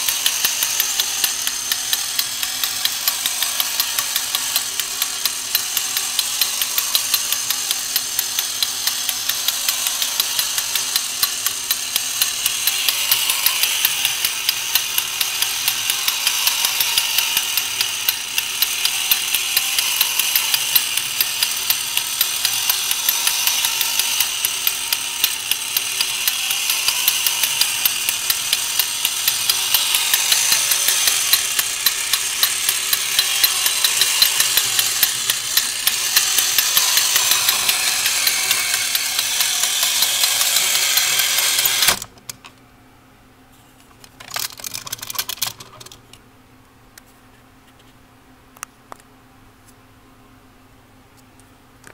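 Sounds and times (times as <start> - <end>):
toy robot motor clicking: 0.0 - 42.5, 44.1 - 46.2.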